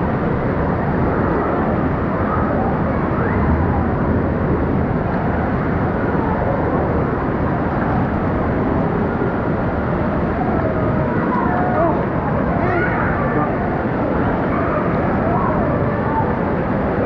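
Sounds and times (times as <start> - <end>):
distant children's voices: 0.1 - 17.0.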